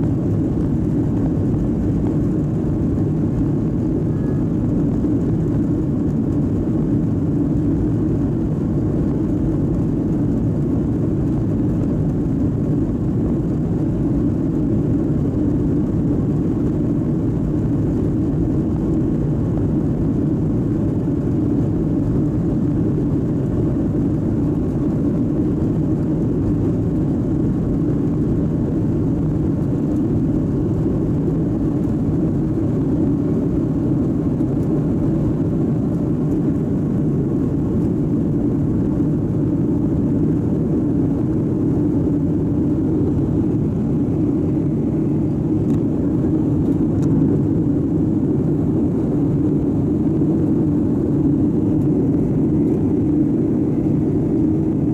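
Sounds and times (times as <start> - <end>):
jet engine noise in cabin: 0.0 - 54.9.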